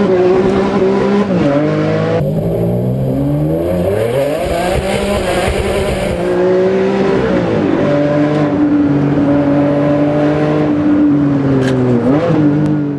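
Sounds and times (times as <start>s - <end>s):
sports car engine revving hard: 0.0s - 11.0s.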